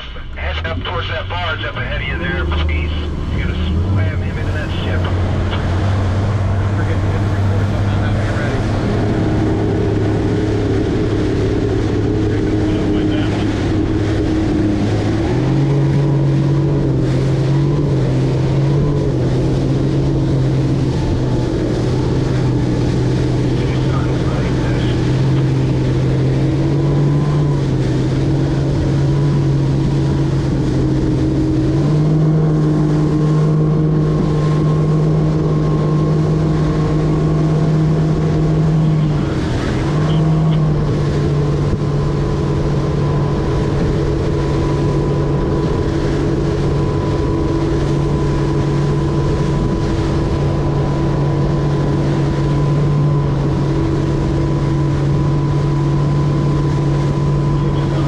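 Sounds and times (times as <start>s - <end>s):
outboard motor cruising: 0.0s - 58.0s.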